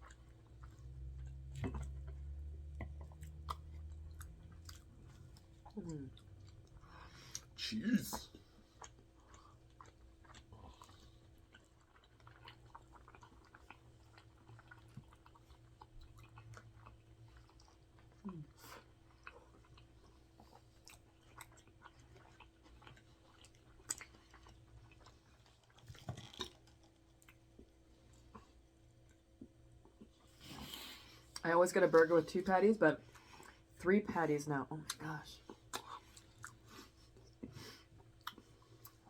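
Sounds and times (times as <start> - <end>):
chewing with wet mouth sounds: 0.0 - 39.0.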